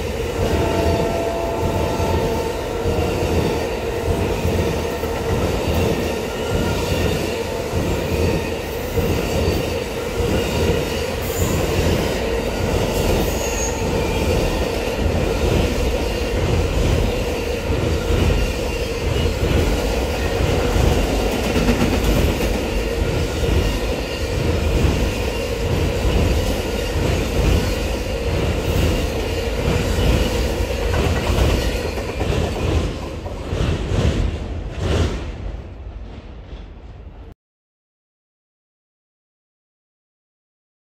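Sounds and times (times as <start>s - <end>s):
train wheels squealing: 0.0s - 33.2s
train wheels clacking over rail joints: 0.0s - 37.2s.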